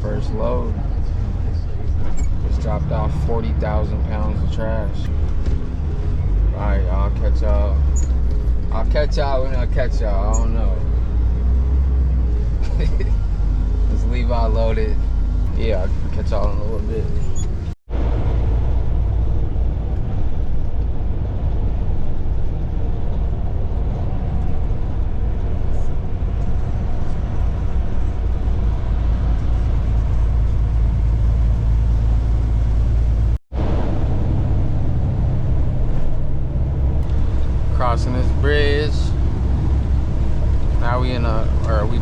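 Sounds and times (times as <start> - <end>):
road rumble: 0.0 - 42.0
truck diesel engine drone: 0.0 - 42.0.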